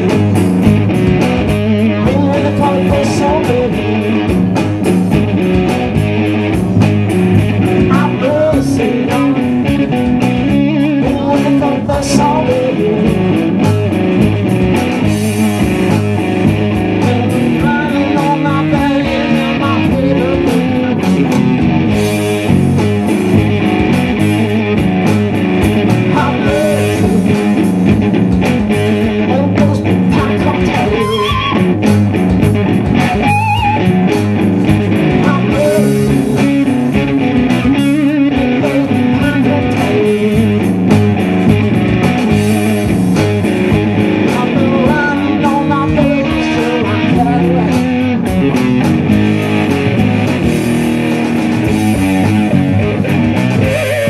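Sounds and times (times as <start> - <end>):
bass: 0.0 - 54.0
drums: 0.0 - 54.0
electric guitar bending notes: 0.0 - 54.0.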